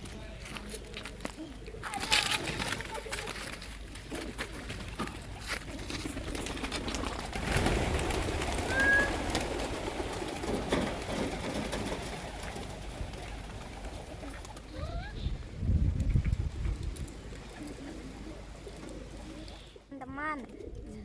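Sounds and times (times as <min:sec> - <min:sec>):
pigeons cooing: 0:00.8 - 0:19.9.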